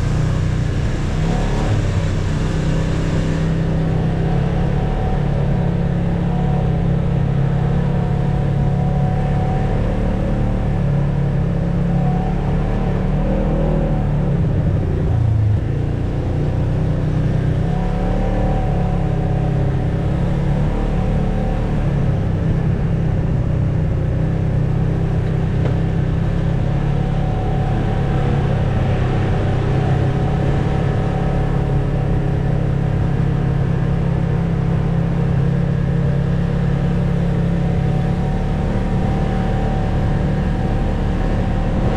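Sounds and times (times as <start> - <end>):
off-road vehicle engine running: 0.0 - 41.9.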